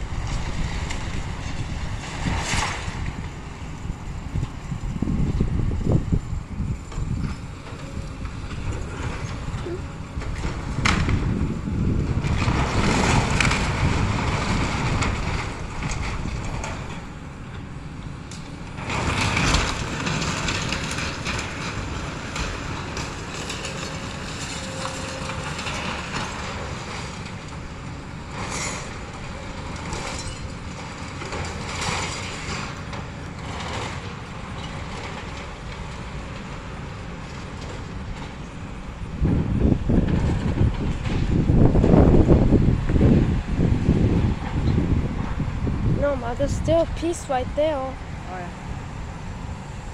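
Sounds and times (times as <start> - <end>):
excavator running: 0.0 - 49.9.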